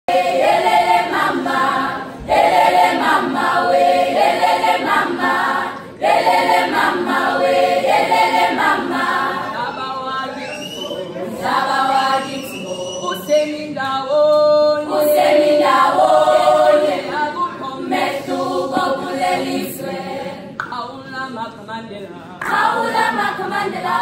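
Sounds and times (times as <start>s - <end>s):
girls' choir singing a cappella: 0.1s - 24.0s.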